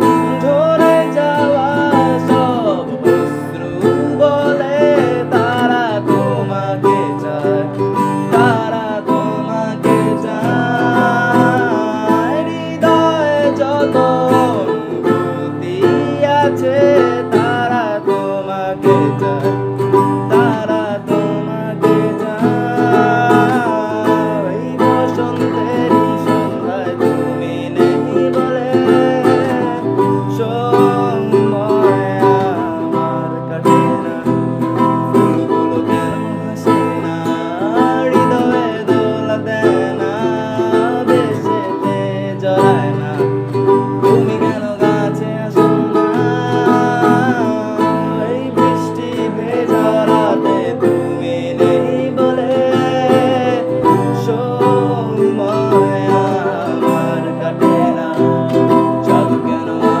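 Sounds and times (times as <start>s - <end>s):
acoustic guitar: 0.0s - 60.0s
ukulele: 0.0s - 60.0s.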